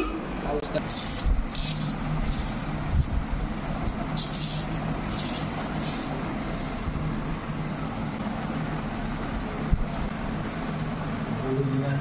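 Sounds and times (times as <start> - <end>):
traffic rumble: 0.2 - 12.0.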